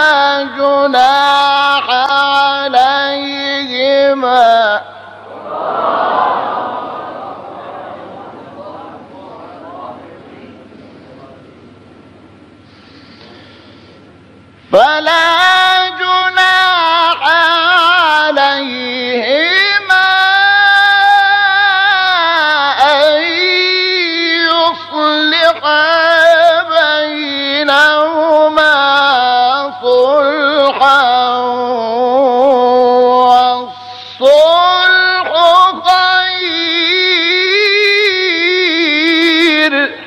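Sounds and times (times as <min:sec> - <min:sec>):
solo voice chanting: 0:00.0 - 0:10.1, 0:14.7 - 0:40.0.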